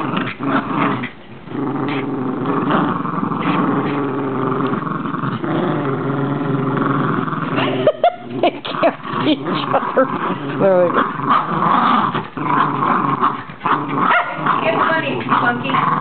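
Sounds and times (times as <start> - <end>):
dogs growling: 0.0 - 16.0.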